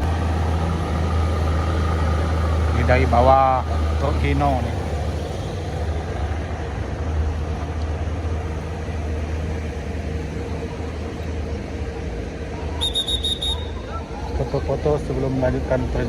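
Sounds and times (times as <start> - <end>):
road noise: 0.0 - 16.0
truck diesel engine running: 0.0 - 16.0.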